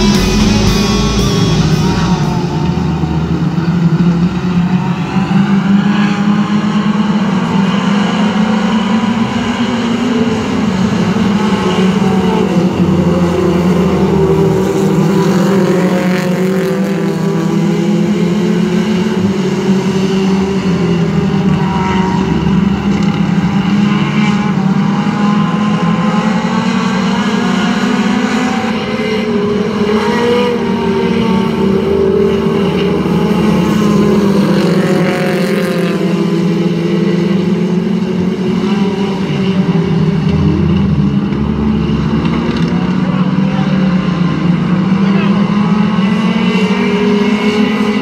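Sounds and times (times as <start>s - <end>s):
race car engines droning: 0.0s - 48.0s.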